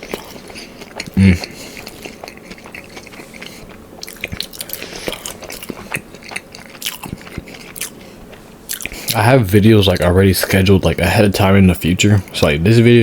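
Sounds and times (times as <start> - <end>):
chewing crispy food: 0.0 - 13.0.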